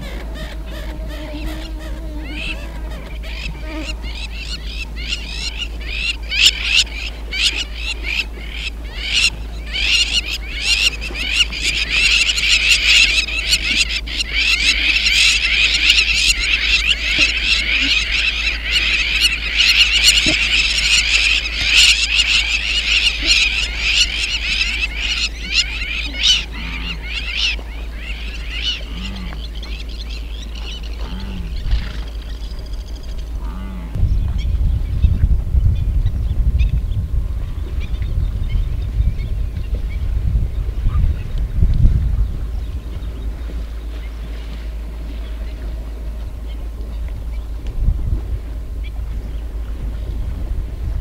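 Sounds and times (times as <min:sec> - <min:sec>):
flock of birds chirping: 0:00.0 - 0:51.0.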